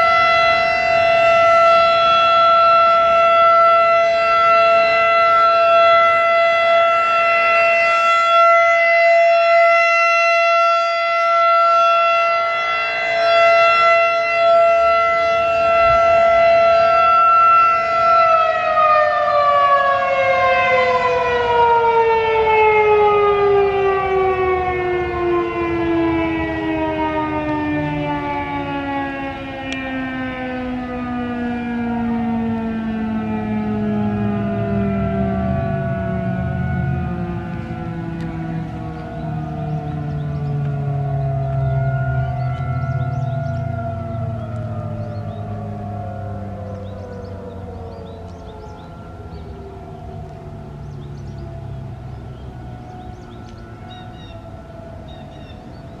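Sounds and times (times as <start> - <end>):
dual-tone siren winding down: 0.0 - 56.0.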